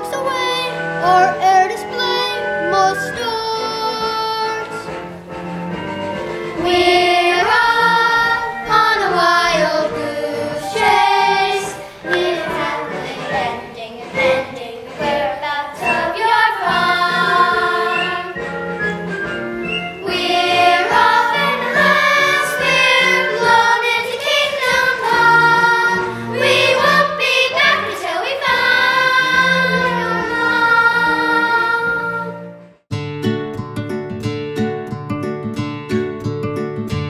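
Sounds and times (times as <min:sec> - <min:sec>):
young voices singing: 0:00.0 - 0:04.9, 0:06.5 - 0:18.6, 0:19.7 - 0:32.5
backing music: 0:00.0 - 0:37.0.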